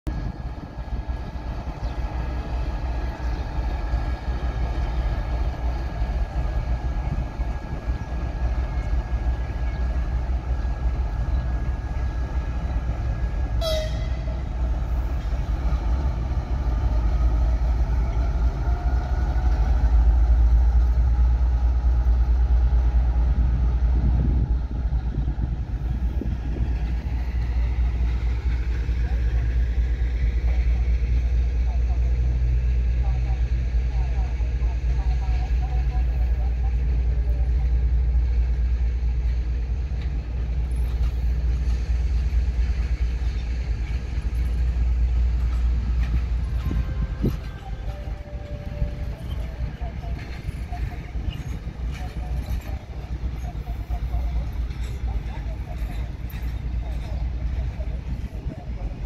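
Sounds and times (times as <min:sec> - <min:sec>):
diesel locomotive rumbling: 0:00.0 - 0:59.0.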